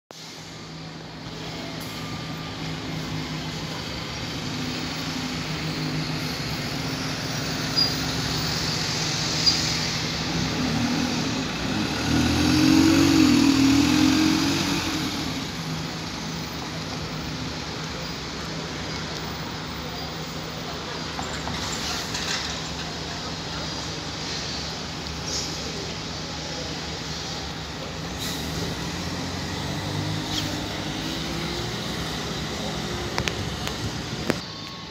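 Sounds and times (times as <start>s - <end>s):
diesel bus engines running: 0.1s - 34.9s
bus pulling away: 0.2s - 34.9s.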